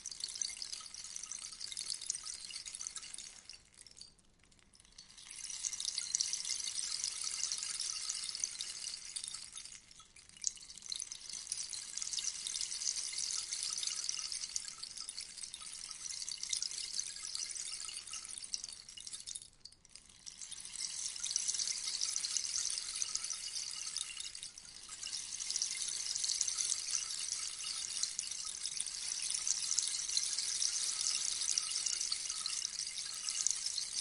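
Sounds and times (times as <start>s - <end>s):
rainstick pellets pattering: 0.0s - 34.0s.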